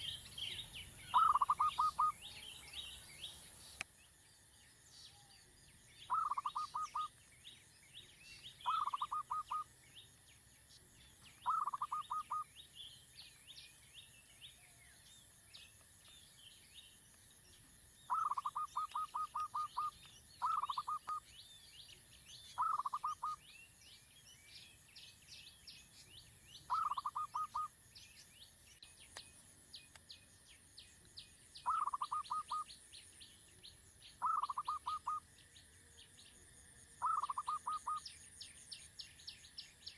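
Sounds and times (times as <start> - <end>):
faint high bird chirps: 0.0 - 39.9.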